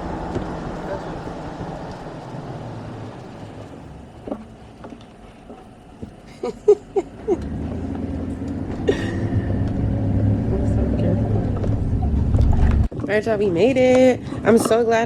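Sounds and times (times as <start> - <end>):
vehicle road rumble: 0.0 - 15.0.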